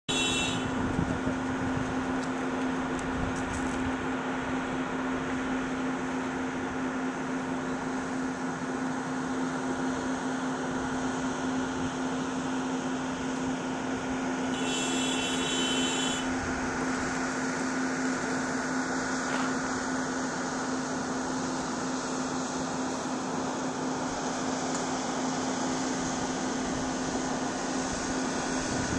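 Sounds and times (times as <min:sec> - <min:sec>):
steady machine hum: 0:00.1 - 0:28.9.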